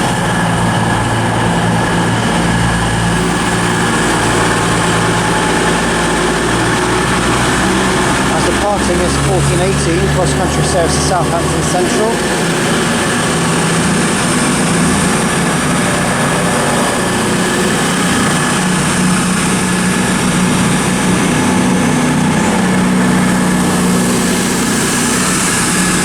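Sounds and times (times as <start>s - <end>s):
diesel train engines running: 0.0s - 26.0s.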